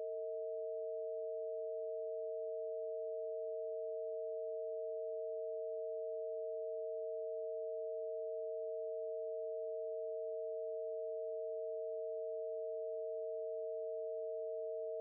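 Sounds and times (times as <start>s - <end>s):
two steady sine tones: 0.0s - 15.0s.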